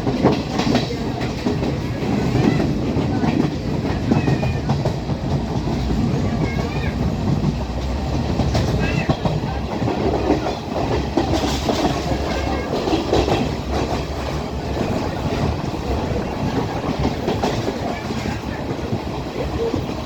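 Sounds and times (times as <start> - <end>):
train rumbling: 0.0 - 20.0
wheels clacking over rail joints: 0.0 - 20.0.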